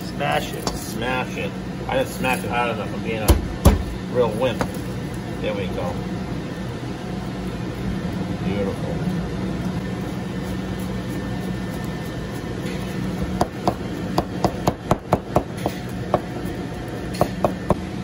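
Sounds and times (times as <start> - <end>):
low kitchen hum: 0.0 - 18.0.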